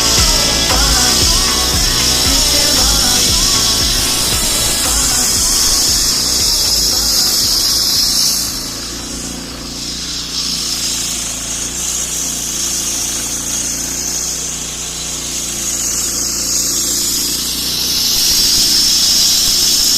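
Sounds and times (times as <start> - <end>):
saw blade grinding concrete: 0.0 - 19.9.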